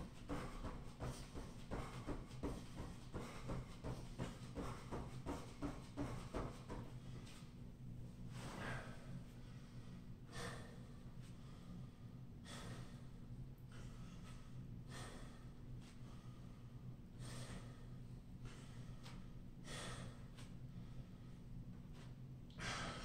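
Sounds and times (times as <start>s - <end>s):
man breathing hard: 0.0s - 7.5s, 8.4s - 21.5s, 22.5s - 23.0s
faint low hum: 0.0s - 23.0s.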